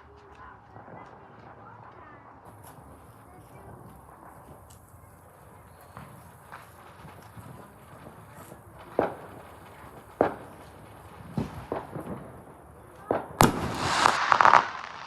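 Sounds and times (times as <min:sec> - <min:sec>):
firework crackling: 0:00.0 - 0:15.0
firework bangs: 0:00.1 - 0:15.0.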